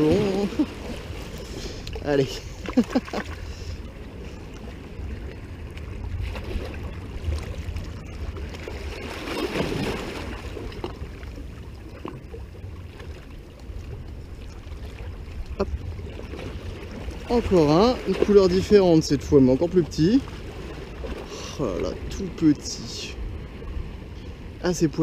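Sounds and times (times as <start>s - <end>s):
waves lapping against rocks: 0.0s - 25.0s
wind rumble on microphone: 0.0s - 25.0s.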